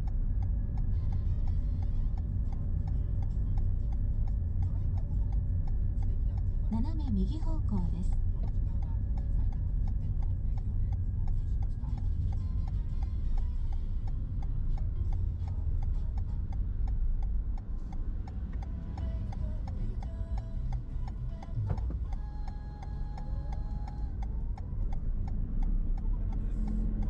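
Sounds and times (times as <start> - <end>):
car road rumble: 0.0 - 27.0
steady ticking: 0.0 - 27.0.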